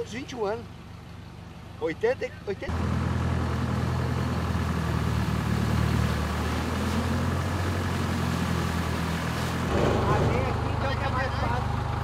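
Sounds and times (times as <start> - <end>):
off-road vehicle engine running: 0.0 - 12.0
water churning around wheels: 0.0 - 12.0.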